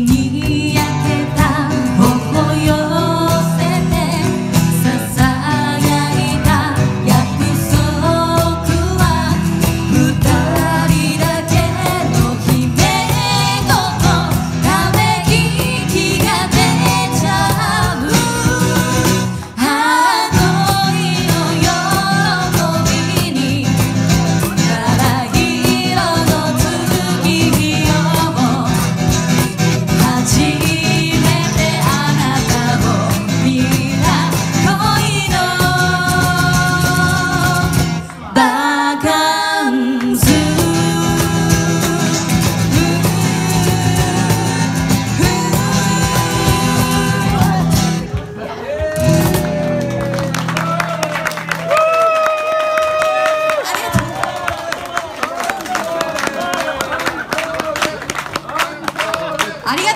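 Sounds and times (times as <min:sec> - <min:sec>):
women singing into microphones: 0:00.0 - 0:48.0
acoustic guitar: 0:00.0 - 0:59.9.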